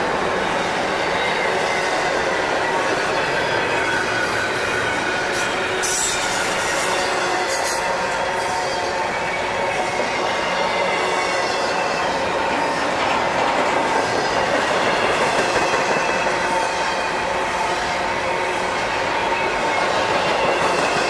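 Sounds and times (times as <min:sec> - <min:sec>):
freight train wheels rumbling: 0:00.0 - 0:21.0
train wheels squealing: 0:00.0 - 0:21.0.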